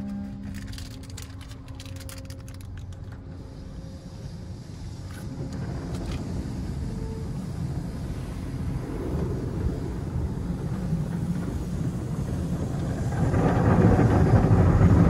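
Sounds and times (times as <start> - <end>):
low rumble of car wash machinery: 0.0 - 15.0.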